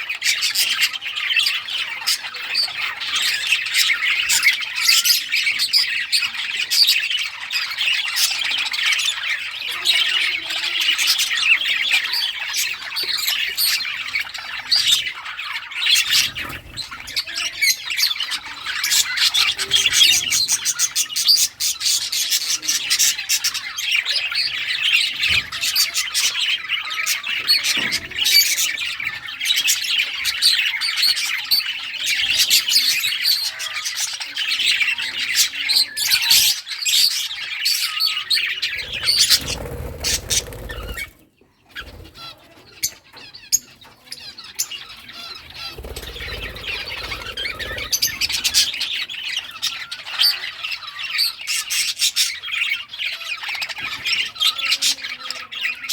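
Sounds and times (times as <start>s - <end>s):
budgies chattering and chirping: 0.0s - 55.9s.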